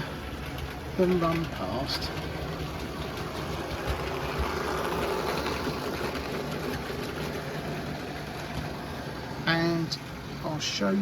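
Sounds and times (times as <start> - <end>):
model train motor whirring: 0.0 - 10.2
wheels rolling on track: 0.0 - 11.0.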